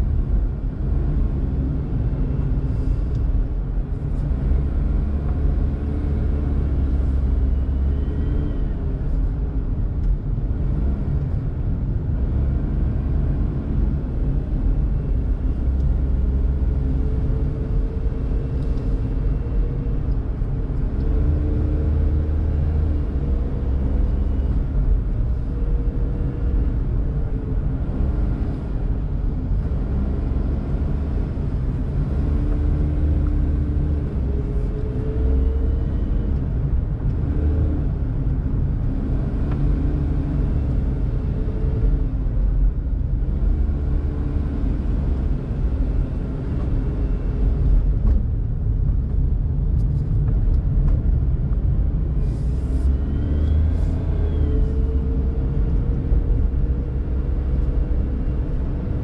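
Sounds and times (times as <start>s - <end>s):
tyre and road noise: 0.0s - 59.0s.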